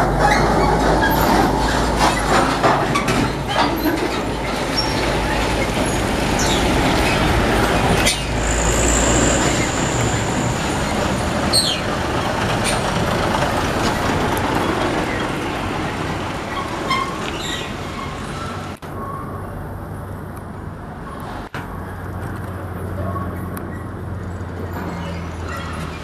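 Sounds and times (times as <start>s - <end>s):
heavy trucks driving past: 0.0s - 26.0s.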